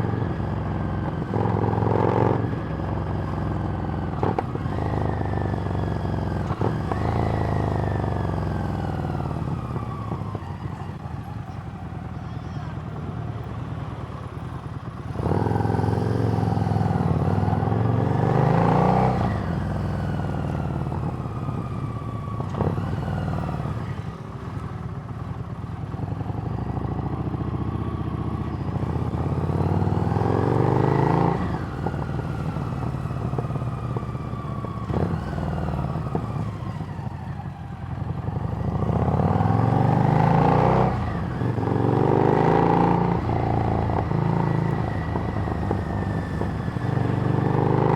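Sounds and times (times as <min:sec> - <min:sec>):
motorcycle engine revving: 0:00.0 - 0:11.5, 0:14.4 - 0:47.9.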